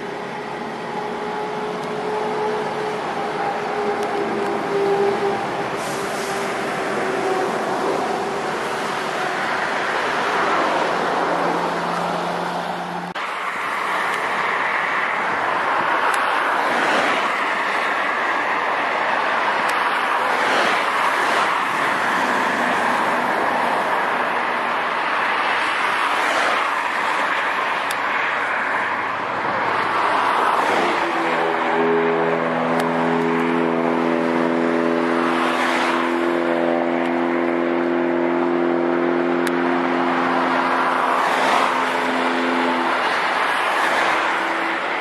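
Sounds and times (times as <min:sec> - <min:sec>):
vehicle rumble: 0:00.0 - 0:45.0.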